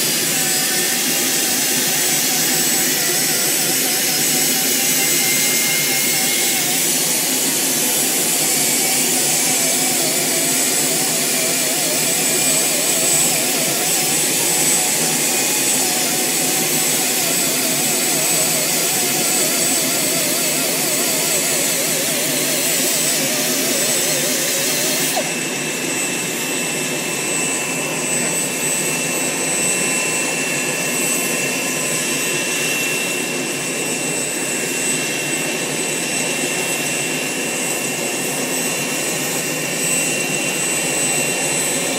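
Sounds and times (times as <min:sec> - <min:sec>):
helicopter engine whine: 0:00.0 - 0:41.9.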